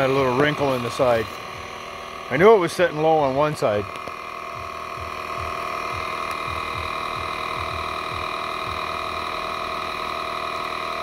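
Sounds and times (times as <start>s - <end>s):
tire inflator compressor humming: 0.0s - 11.0s.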